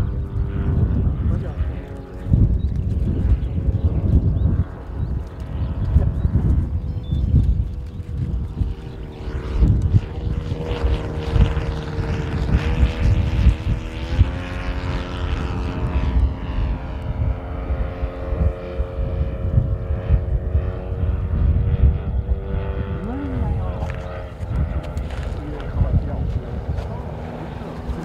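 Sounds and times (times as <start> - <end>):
model airplane propeller drone: 0.0 - 28.0.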